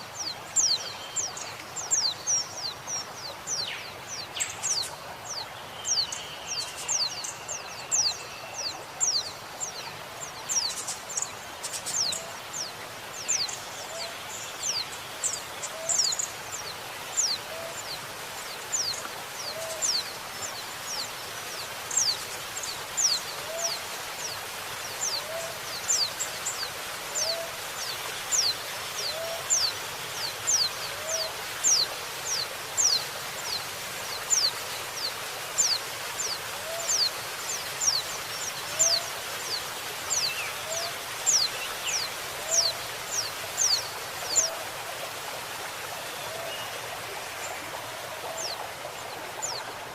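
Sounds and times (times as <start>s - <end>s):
running water: 0.0s - 49.9s.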